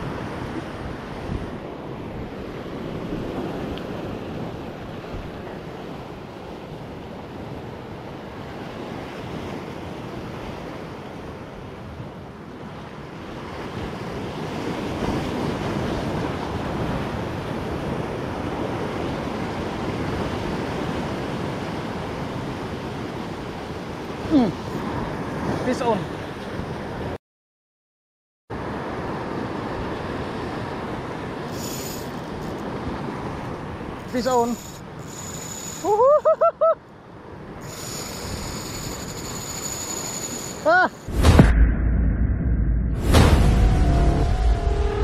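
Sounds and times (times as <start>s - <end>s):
sea surf washing ashore: 0.0s - 27.2s, 28.5s - 41.5s.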